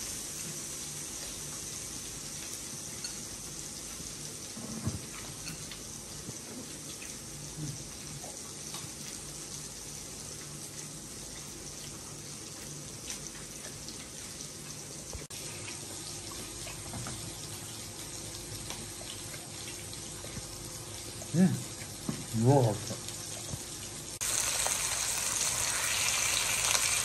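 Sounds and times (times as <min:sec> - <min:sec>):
meat sizzling on a grill: 0:00.0 - 0:27.0.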